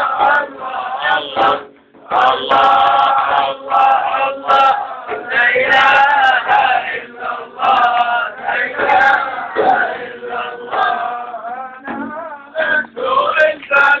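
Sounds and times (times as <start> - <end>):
sharp drum strikes: 0.0 - 13.1
group singing devotional chant: 0.0 - 14.0.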